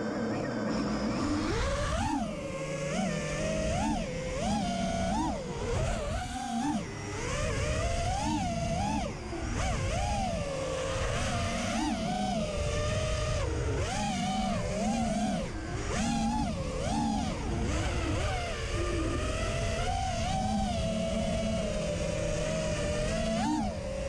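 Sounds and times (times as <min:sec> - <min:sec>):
drone motors and propellers whining: 0:00.0 - 0:24.0
steady rushing noise: 0:00.0 - 0:24.0.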